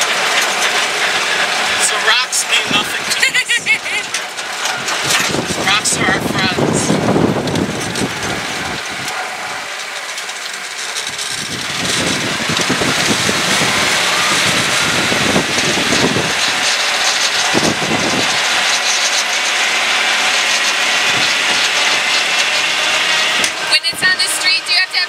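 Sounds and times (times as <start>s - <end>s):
off-road vehicle engine: 0.0s - 25.0s.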